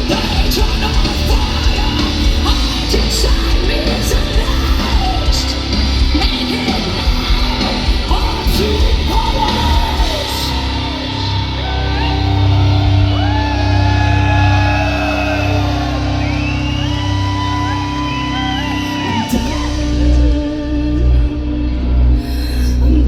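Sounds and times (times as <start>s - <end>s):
person yelling and singing: 0.0s - 21.6s
heavy metal band playing live: 0.0s - 23.0s.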